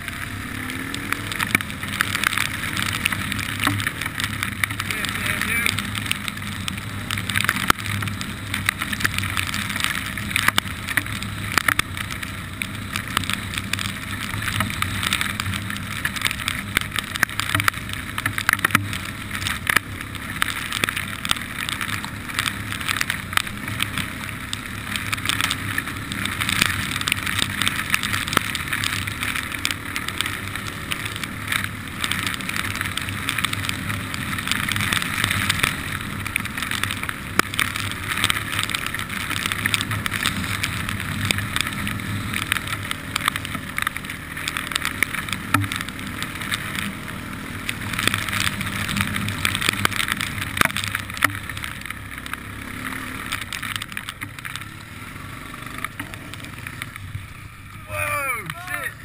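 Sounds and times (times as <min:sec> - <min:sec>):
sharp ticks and knocks: 0:00.0 - 0:57.5
atv engine running: 0:00.0 - 0:59.0
tyre and wind noise: 0:00.0 - 0:59.0.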